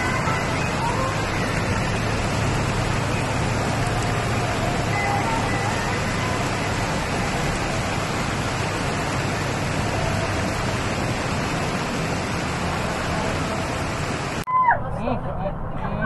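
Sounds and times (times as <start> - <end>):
heavy rain falling: 0.0 - 14.4.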